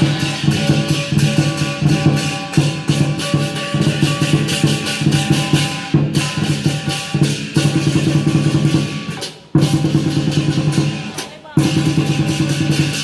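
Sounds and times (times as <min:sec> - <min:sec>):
big drum beating: 0:00.0 - 0:13.0
cymbals clashing: 0:00.0 - 0:13.0.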